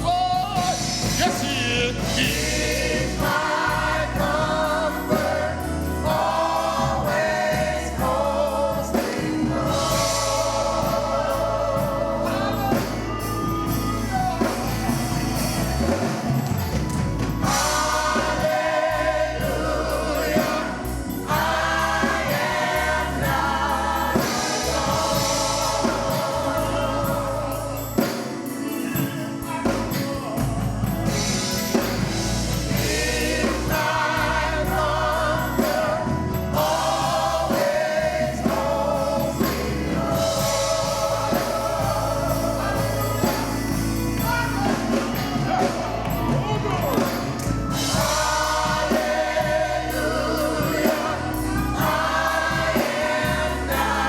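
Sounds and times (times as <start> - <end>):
steady bass line: 0.0 - 28.1, 29.7 - 54.0
gospel choir singing: 0.0 - 54.0
instrumental accompaniment: 0.0 - 54.0.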